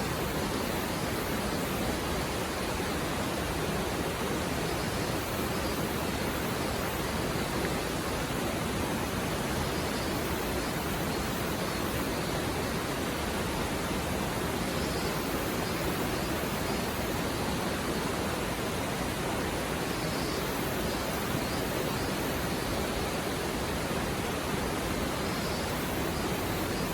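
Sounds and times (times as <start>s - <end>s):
river flowing over rocks: 0.0s - 26.9s.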